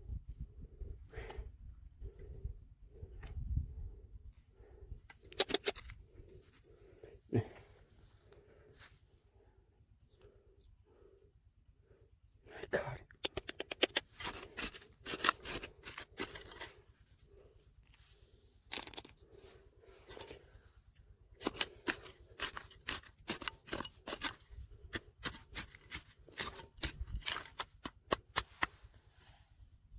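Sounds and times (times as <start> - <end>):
gravel being dug and handled: 0.8 - 9.2, 12.5 - 29.7.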